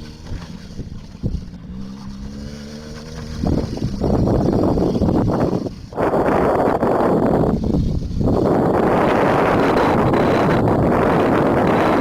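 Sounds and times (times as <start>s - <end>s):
small atv engine running: 0.0s - 12.0s.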